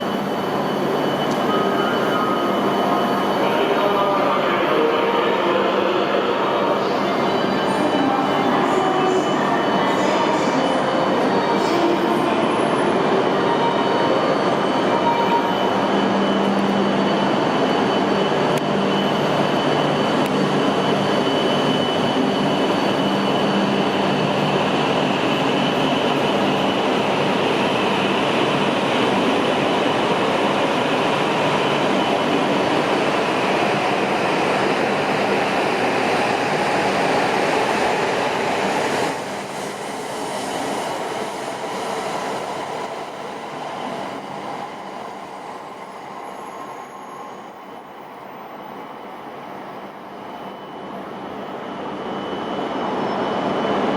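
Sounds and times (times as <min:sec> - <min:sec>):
train rushing through station: 0:00.0 - 0:53.9.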